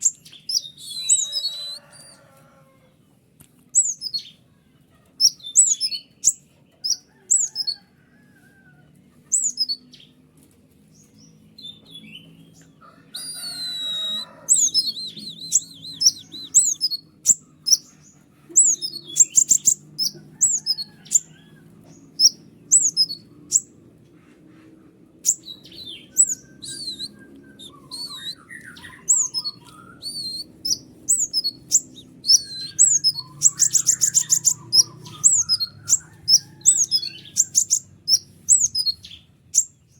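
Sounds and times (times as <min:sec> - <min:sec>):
songbird singing: 0:00.0 - 0:02.7, 0:03.6 - 0:04.5, 0:05.1 - 0:10.2, 0:10.8 - 0:39.9.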